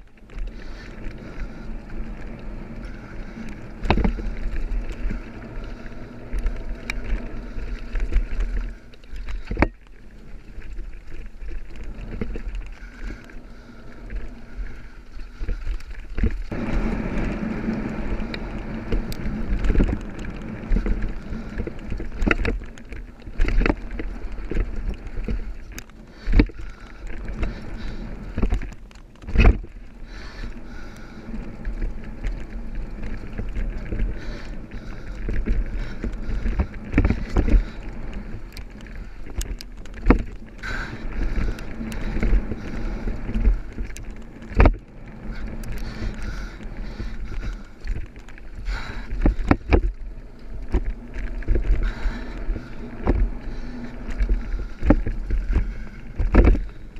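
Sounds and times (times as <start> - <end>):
bike knocking and rattling: 0.0 - 56.9
bike tyres rumbling on dirt: 0.0 - 56.9.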